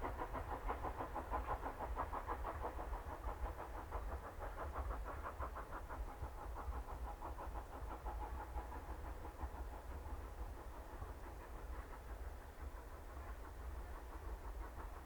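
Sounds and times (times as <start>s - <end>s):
steam train running: 0.0s - 15.0s.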